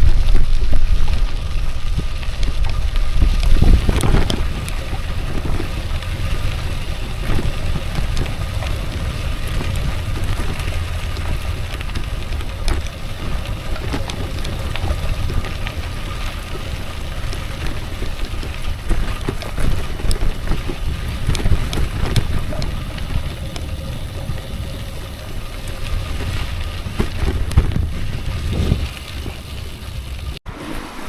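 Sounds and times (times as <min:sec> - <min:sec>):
wind buffeting microphone: 0:00.0 - 0:30.4
steady rumble: 0:00.0 - 0:31.0.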